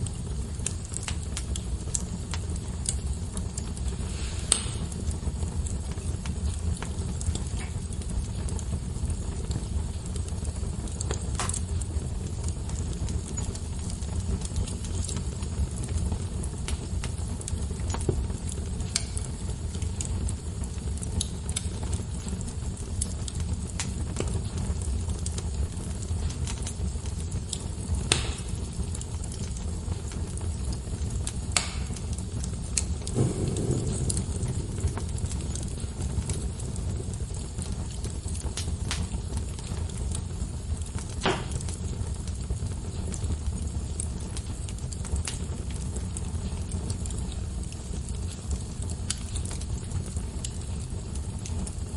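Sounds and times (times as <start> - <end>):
sharp pops from burning logs: 0.0 - 51.9
wood fire crackling: 0.0 - 51.9.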